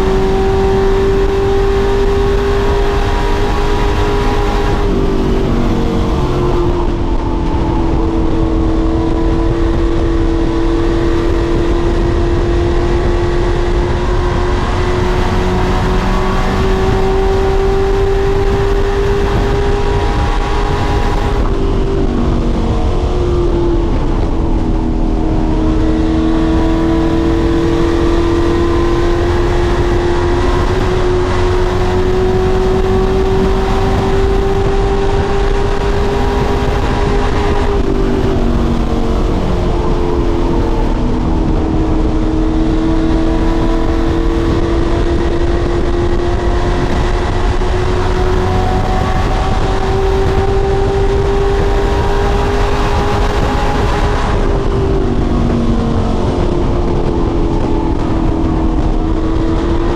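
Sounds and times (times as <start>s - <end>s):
racing truck engine revving: 0.0s - 59.9s.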